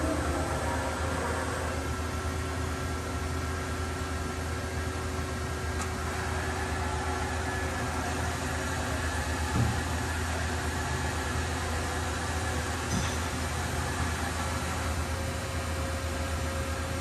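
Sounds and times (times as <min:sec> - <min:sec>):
machine shop hum and hiss: 0:00.0 - 0:17.0.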